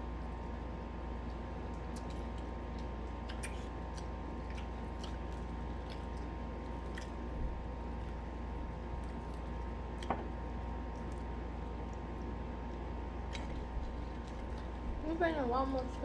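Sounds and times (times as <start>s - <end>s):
steady low hum: 0.0s - 16.0s
chewing and lip-smacking: 0.1s - 16.0s.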